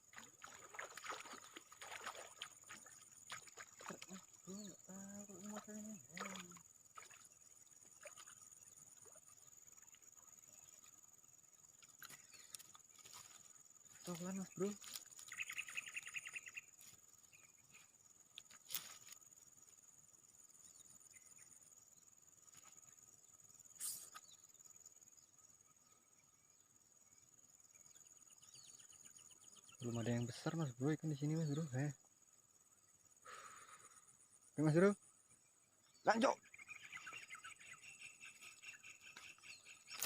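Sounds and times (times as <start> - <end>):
high insect whine: 0.0 - 40.0.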